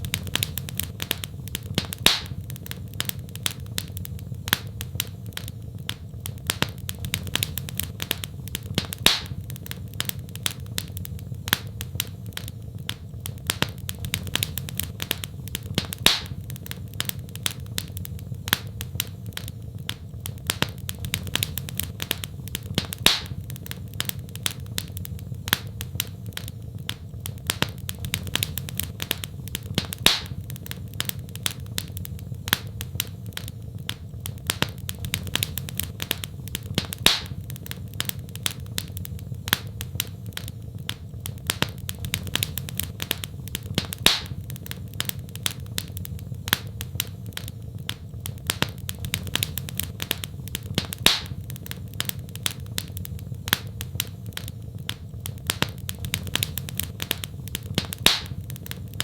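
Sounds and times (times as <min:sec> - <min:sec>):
loud fire pop: 0:00.0 - 0:59.0
low rumble of burning: 0:00.0 - 0:59.0
wood fire snapping: 0:00.0 - 0:59.0.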